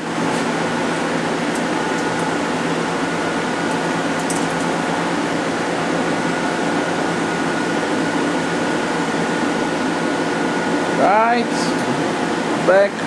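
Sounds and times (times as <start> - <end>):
lathe humming and whining: 0.0 - 13.0.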